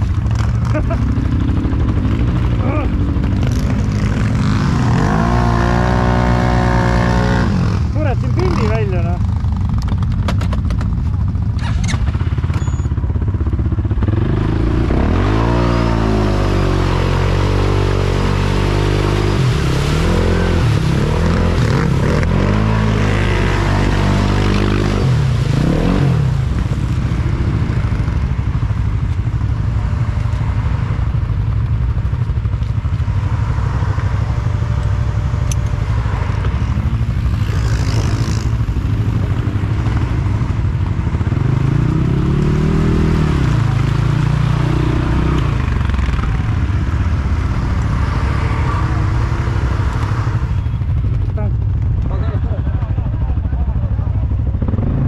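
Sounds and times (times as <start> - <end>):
atv engines revving: 0.0 - 55.0.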